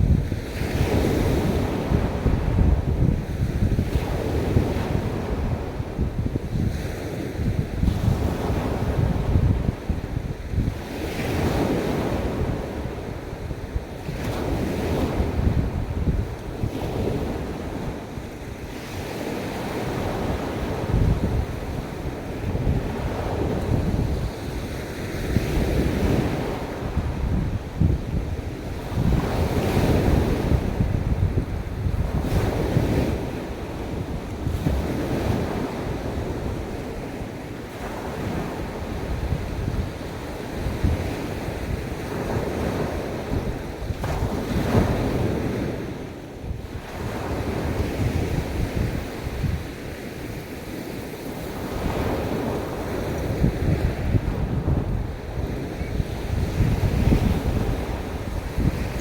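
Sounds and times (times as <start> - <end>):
ocean waves breaking: 0.0 - 59.0
wind buffeting microphone: 0.0 - 59.0.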